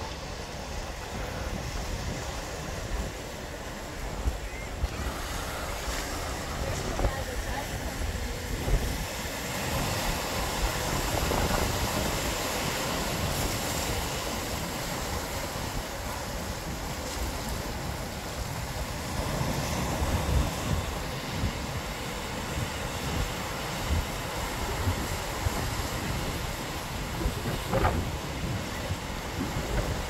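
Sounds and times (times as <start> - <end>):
surf breaking over rocks: 0.0 - 30.0
wind buffeting microphone: 0.0 - 30.0.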